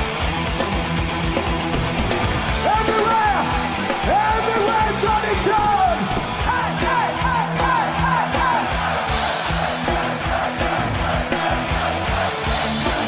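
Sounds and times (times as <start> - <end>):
rock music with yelled vocal: 0.0 - 13.0.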